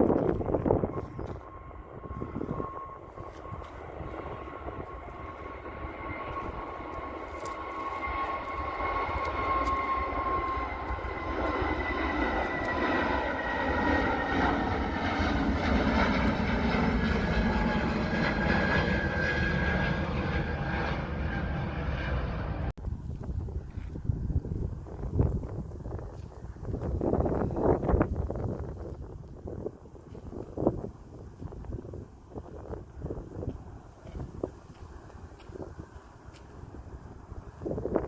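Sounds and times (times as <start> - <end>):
airliner engines roaring past: 0.0 - 38.0.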